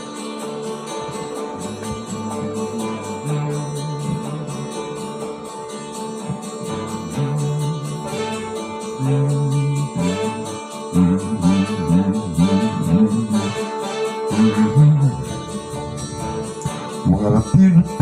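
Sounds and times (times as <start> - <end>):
instrumental pop music: 0.0 - 18.0.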